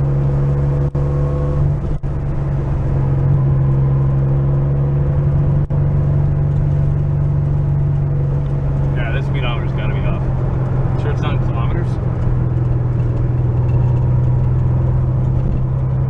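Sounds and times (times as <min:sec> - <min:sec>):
car engine drone from cabin: 0:00.0 - 0:16.0.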